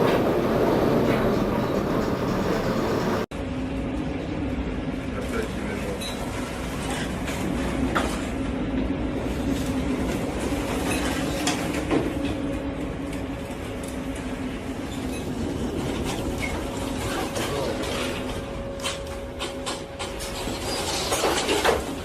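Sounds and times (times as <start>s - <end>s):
low machinery hum: 0.0s - 22.0s.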